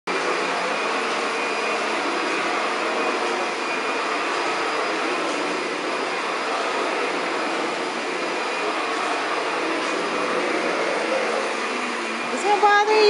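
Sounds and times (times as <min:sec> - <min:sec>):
vacuum cleaner running: 0:00.1 - 0:13.0.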